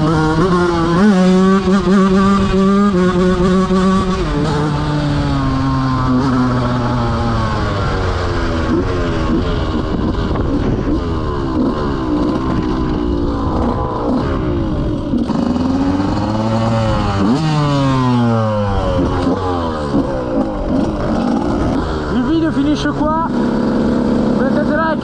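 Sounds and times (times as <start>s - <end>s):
motorcycle engine shifting gears: 0.0s - 25.0s.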